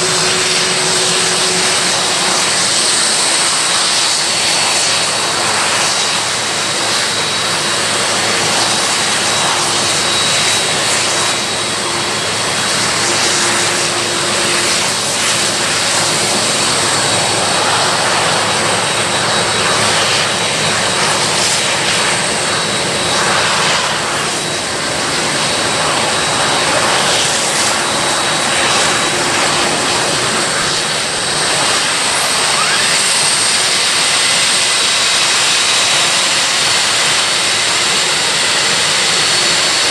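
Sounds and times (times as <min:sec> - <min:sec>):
high engine whine: 0:00.0 - 0:39.9
jet engines rushing: 0:00.0 - 0:39.9.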